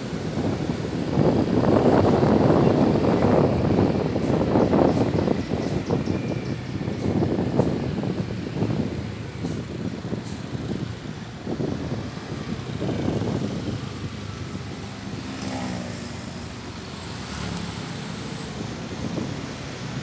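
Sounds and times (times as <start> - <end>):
vehicle engines running: 0.0 - 20.0
wind buffeting microphone: 0.0 - 20.0.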